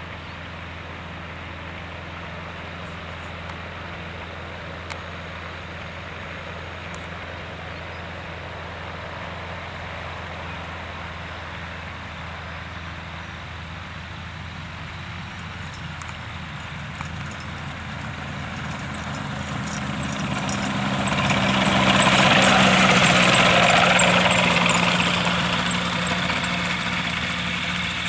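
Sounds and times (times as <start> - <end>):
microlight engine and propeller: 0.0 - 28.0.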